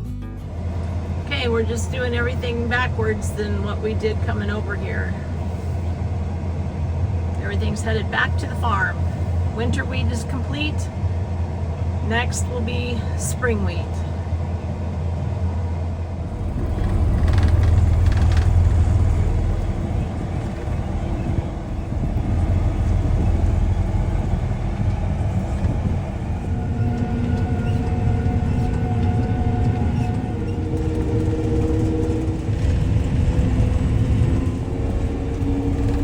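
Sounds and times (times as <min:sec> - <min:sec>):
heavy vehicle engine rumble: 0:00.0 - 0:36.0
steady engine hum: 0:00.0 - 0:36.0.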